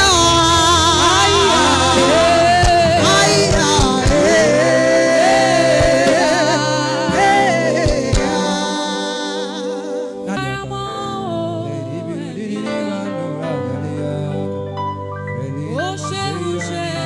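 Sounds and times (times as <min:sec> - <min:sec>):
person singing long held notes: 0:00.0 - 0:14.8
sustained instrumental backing: 0:00.0 - 0:17.0.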